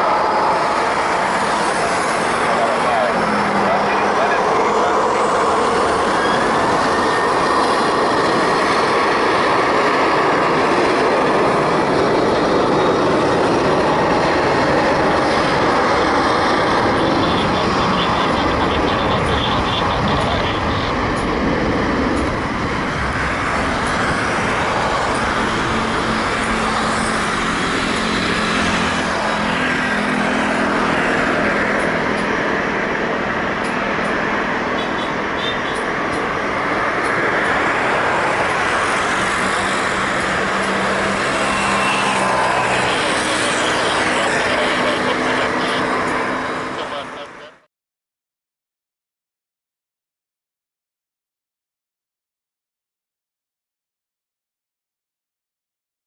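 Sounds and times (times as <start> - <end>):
jet engines roaring: 0.0 - 47.6.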